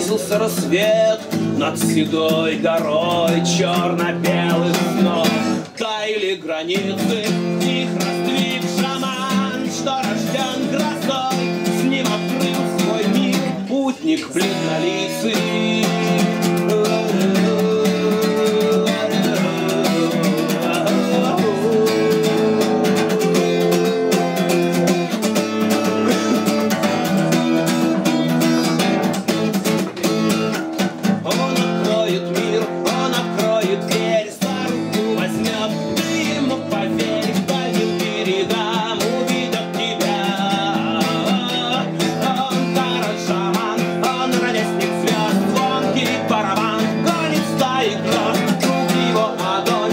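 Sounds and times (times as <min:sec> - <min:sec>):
person singing: 0:00.0 - 0:29.5, 0:31.0 - 0:49.9
acoustic guitar strumming: 0:00.0 - 0:49.9.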